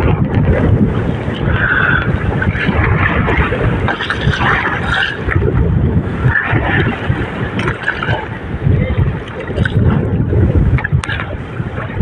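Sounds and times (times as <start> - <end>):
sea waves sloshing and hissing: 0.0 - 12.0
wind buffeting microphone: 0.0 - 12.0.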